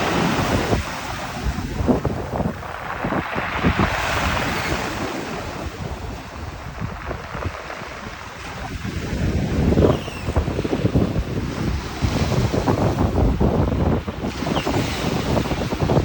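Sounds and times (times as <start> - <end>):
waves breaking on shore: 0.0 - 16.0
wind buffeting microphone: 0.0 - 16.0.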